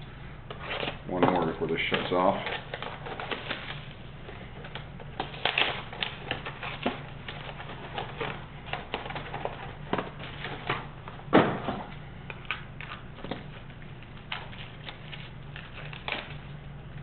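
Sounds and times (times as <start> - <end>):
card box packaging rustling: 0.5 - 16.6.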